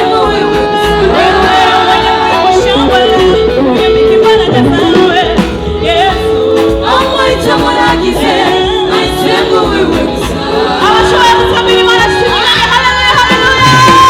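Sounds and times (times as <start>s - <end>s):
backing voices singing: 0.0s - 14.0s
live band with steady bass: 0.0s - 14.0s
person singing gospel: 0.0s - 14.0s.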